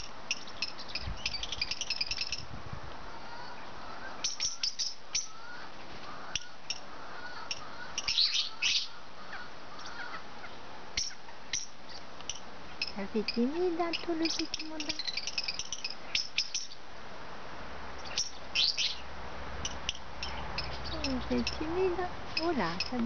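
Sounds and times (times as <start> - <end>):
birds chirping: 0.0 - 16.9, 17.9 - 23.0.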